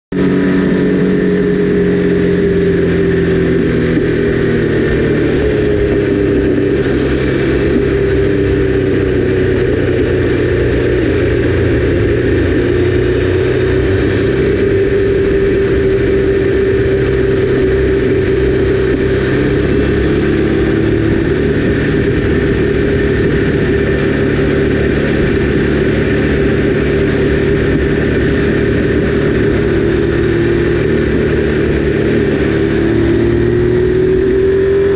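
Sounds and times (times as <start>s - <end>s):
motorcycle engine cruising: 0.1s - 34.9s
wind rush: 0.1s - 34.9s.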